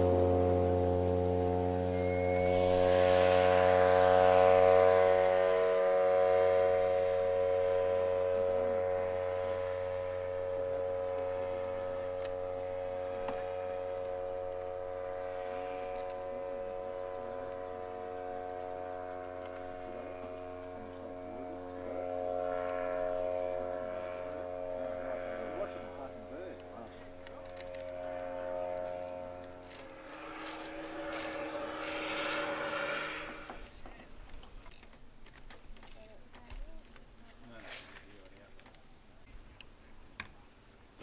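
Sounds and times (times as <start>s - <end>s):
model plane engine drone: 0.0s - 41.0s.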